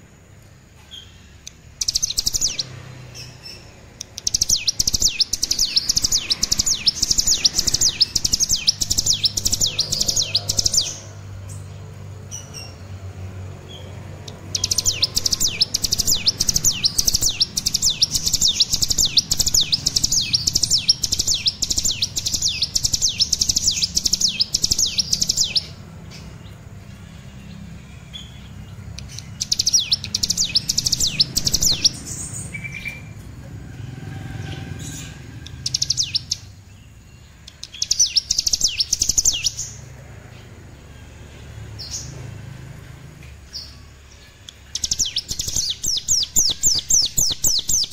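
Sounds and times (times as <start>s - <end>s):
bird singing high rising notes: 0.9s - 47.9s.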